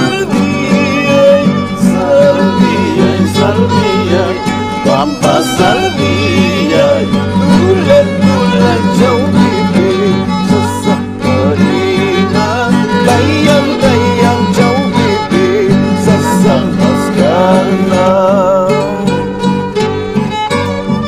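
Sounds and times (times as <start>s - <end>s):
man singing: 0.0s - 19.6s
acoustic guitars: 0.0s - 21.0s
violin melody: 0.0s - 21.0s.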